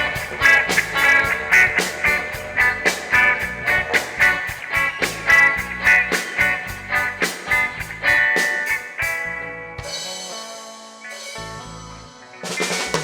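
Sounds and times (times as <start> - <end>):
reggae band playing: 0.0 - 13.0.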